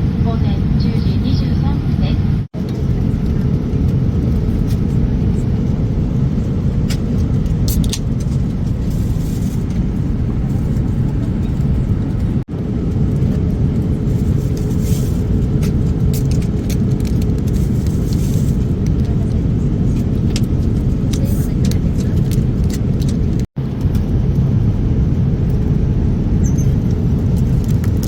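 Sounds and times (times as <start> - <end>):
airliner engines rumbling in cabin: 0.0 - 28.0.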